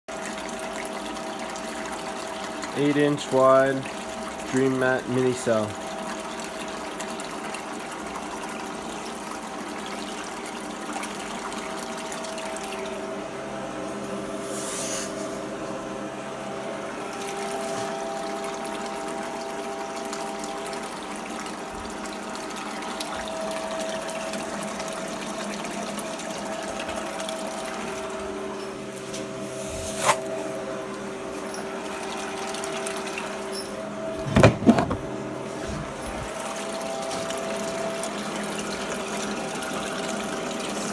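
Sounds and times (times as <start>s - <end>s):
pump hum: 0.1s - 40.9s.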